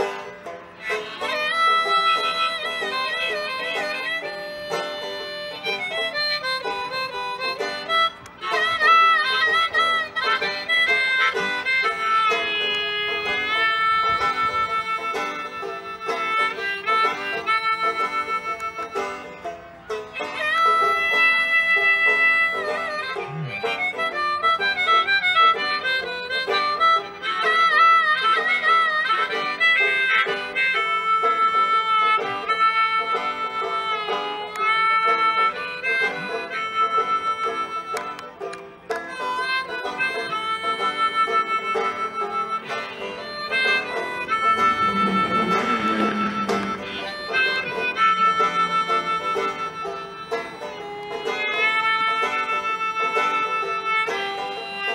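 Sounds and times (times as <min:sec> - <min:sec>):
harmonica playing blues: 0:00.0 - 0:54.9
picked banjo: 0:00.0 - 0:54.9.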